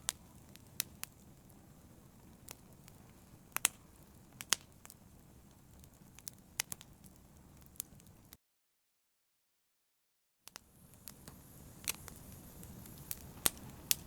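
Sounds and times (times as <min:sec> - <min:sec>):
fire crackling: 0:00.0 - 0:08.4, 0:10.5 - 0:14.0.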